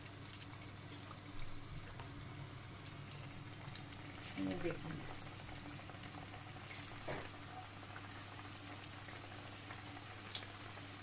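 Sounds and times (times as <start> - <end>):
oil bubbling and crackling: 0.0 - 11.0.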